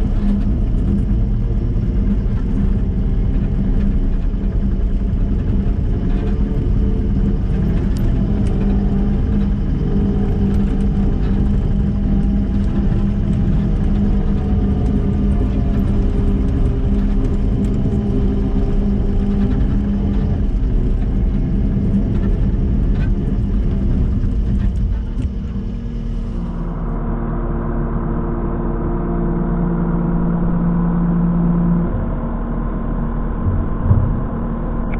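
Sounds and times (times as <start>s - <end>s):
skid steer diesel engine running: 0.0s - 34.9s.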